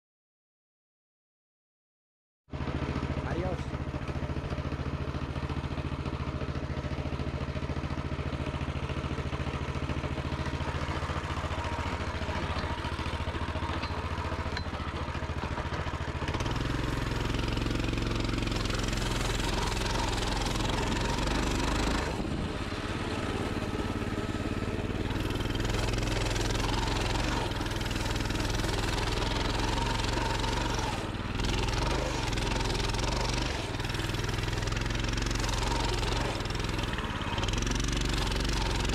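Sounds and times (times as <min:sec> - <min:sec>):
pit bike engine revving: 0:02.6 - 0:38.9.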